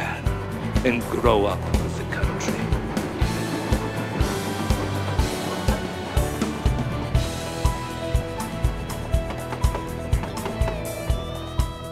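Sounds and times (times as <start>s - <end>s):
instrumental music with deep thumping beat: 0.0s - 11.9s.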